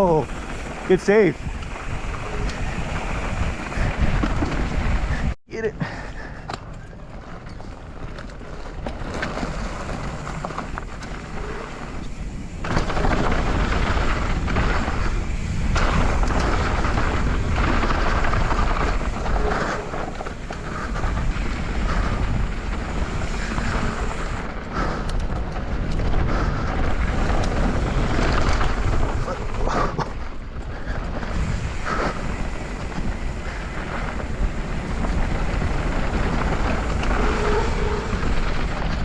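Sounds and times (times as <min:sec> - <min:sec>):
tyres rolling over dirt: 0:00.0 - 0:05.4, 0:06.6 - 0:39.0
mountain bike rattling: 0:00.0 - 0:39.0
wind rush on microphone: 0:00.0 - 0:39.0.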